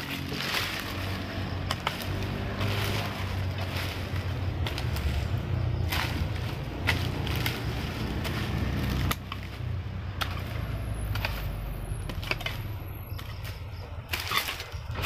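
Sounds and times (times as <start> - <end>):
hoe chopping into soil: 0.0 - 5.2, 5.8 - 15.0.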